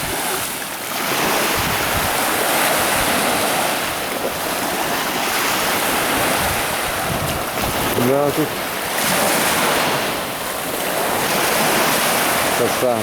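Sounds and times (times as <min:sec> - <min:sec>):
sea waves breaking on shore: 0:00.0 - 0:13.0
wind on microphone: 0:00.0 - 0:13.0.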